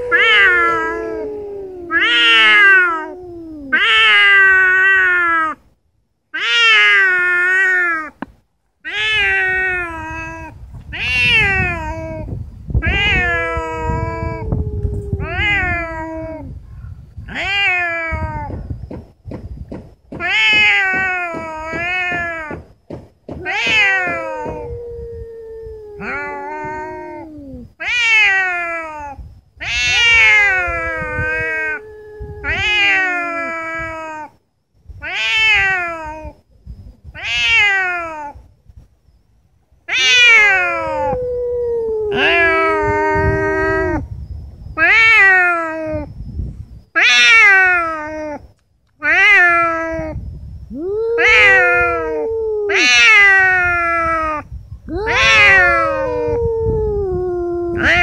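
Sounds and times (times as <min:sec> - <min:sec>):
cats yowling: 0:00.0 - 0:05.6, 0:06.4 - 0:08.2, 0:08.8 - 0:16.5, 0:17.3 - 0:18.6, 0:20.2 - 0:22.7, 0:23.3 - 0:34.4, 0:35.0 - 0:36.4, 0:37.1 - 0:38.5, 0:39.9 - 0:44.1, 0:44.8 - 0:46.1, 0:46.9 - 0:58.0.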